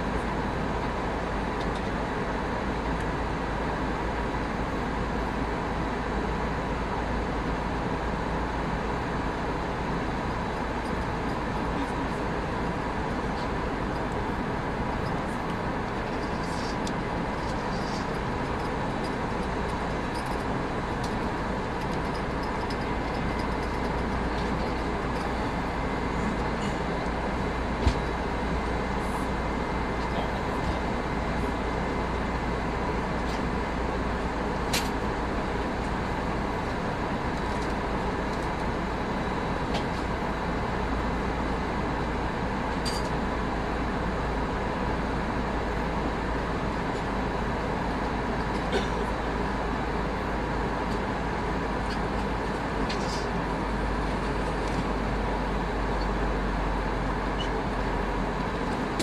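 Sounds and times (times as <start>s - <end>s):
aircraft engine and airflow roar: 0.0s - 59.0s
faint steady whine: 0.0s - 59.0s.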